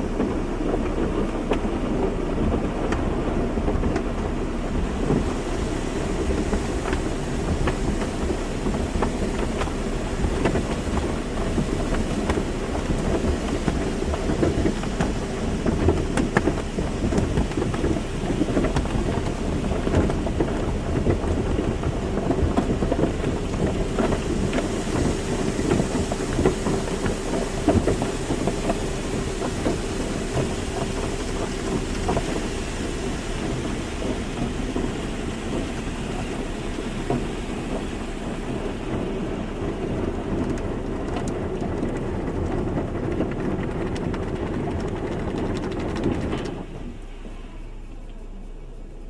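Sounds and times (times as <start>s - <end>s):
spraying water and machinery: 0.0s - 49.0s
steady hum: 0.0s - 49.0s.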